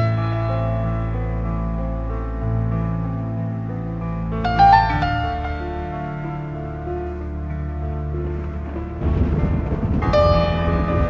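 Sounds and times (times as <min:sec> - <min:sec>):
slow soft instrumental music: 0:00.0 - 0:11.0.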